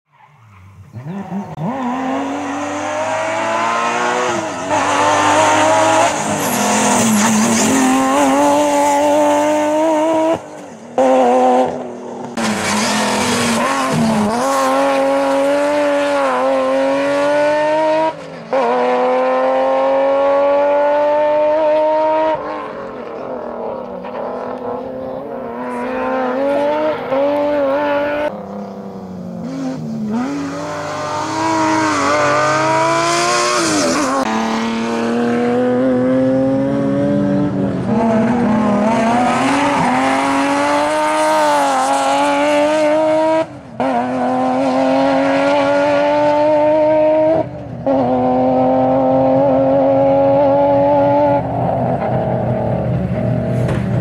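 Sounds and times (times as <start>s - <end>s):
race car engine revving: 1.0s - 54.0s.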